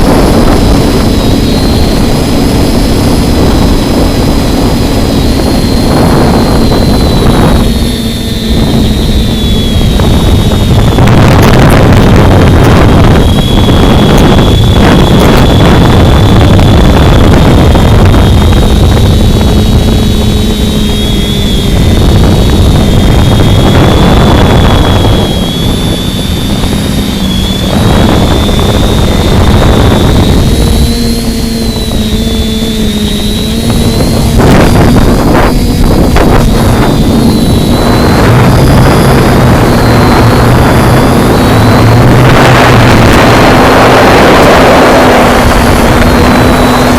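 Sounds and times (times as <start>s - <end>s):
radio-controlled aircraft motor whine: 0.0s - 46.9s
wind buffeting microphone: 0.0s - 46.9s.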